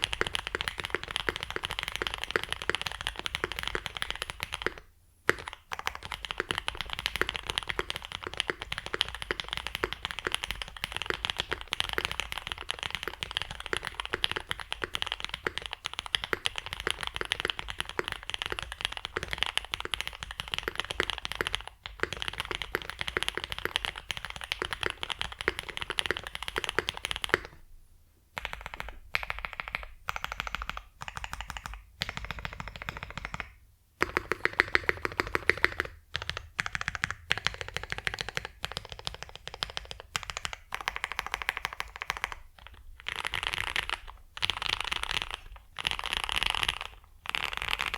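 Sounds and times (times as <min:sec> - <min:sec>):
fast typing on mechanical keyboard: 0:00.0 - 0:27.6, 0:28.4 - 0:47.9.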